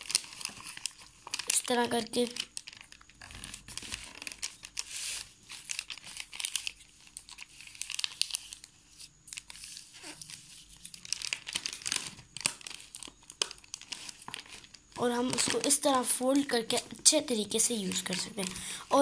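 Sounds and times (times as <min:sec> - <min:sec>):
paper crinkling and crackling: 0:00.0 - 0:19.0.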